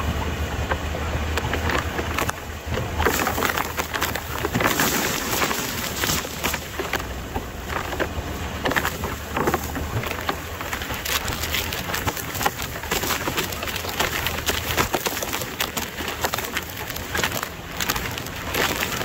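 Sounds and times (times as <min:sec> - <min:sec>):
low engine drone: 0:00.0 - 0:19.0
weeds crackling against vehicle: 0:00.0 - 0:19.0.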